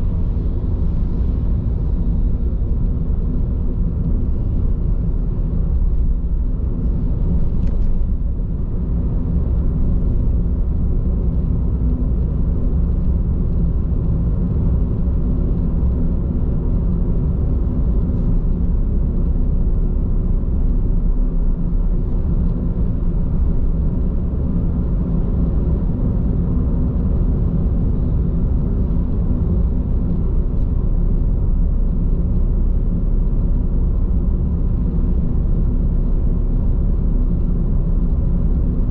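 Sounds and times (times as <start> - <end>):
car tyre and road noise: 0.0 - 38.9.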